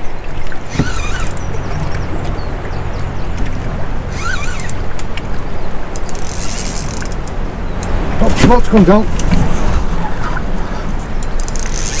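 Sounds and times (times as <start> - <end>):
bird calling: 0.0 - 12.0
boat engine hum: 0.0 - 12.0.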